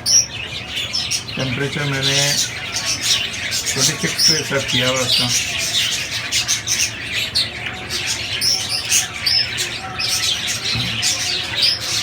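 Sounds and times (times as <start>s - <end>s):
parrots chattering: 0.0s - 12.0s.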